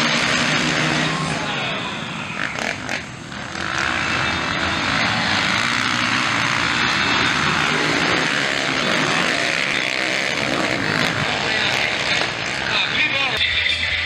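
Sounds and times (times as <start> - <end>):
dirt bike engines racing: 0.0 - 14.0.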